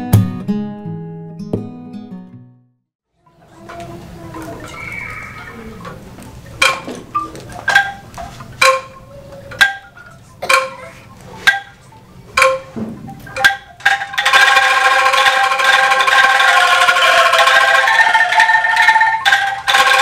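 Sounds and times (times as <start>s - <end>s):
angklung ensemble rattling chord: 3.2s - 20.0s
bamboo angklung melody: 3.2s - 20.0s.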